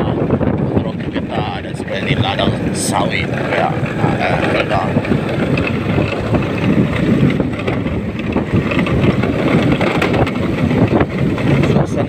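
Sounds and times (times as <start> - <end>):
wind buffeting microphone: 0.0 - 12.0
small motorcycle engine running: 1.0 - 12.0.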